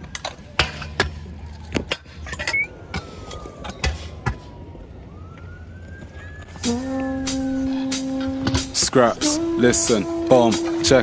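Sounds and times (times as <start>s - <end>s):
faint siren wailing: 0.0s - 11.0s.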